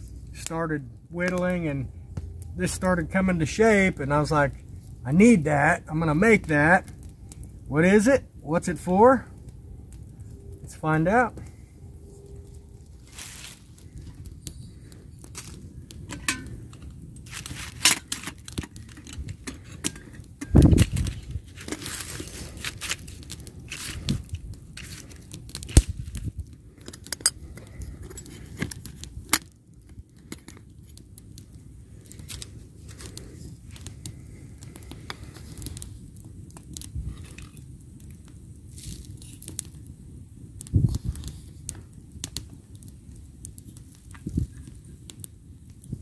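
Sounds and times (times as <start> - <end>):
soft scraping and gritty rustling: 0.0 - 39.9, 40.6 - 42.9.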